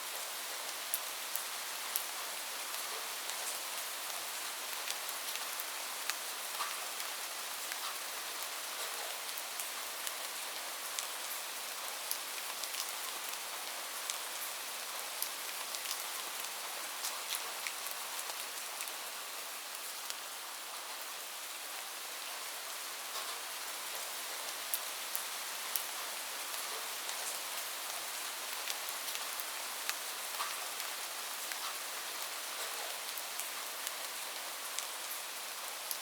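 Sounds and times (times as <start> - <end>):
steady rain hissing: 0.0 - 36.0
raindrops ticking on a surface: 0.1 - 21.1, 23.1 - 36.0.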